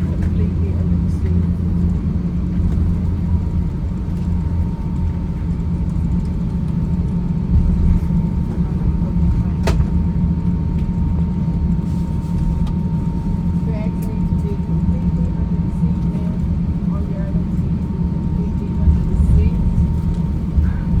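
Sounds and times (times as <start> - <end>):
aircraft cabin rumble: 0.0 - 21.0.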